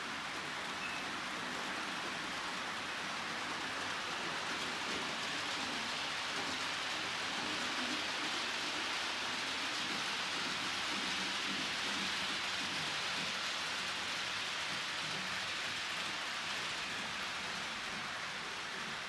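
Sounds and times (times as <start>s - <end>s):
model train wheels on rails: 0.0s - 19.0s.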